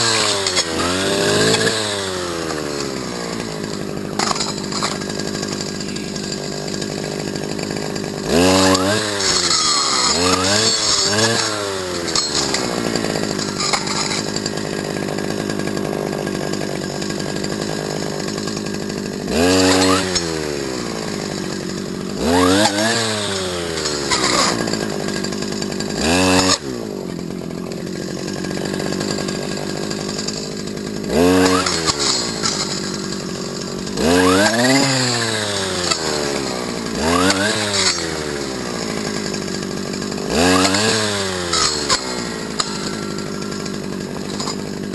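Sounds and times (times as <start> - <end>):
brush cutter engine revving: 0.0 - 44.9.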